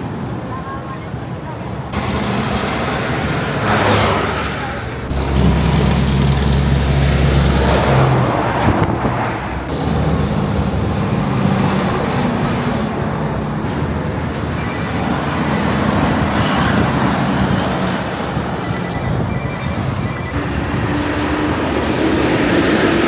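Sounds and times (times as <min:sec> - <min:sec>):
truck diesel engines passing: 0:00.0 - 0:23.0
tyre and road noise: 0:00.0 - 0:23.0.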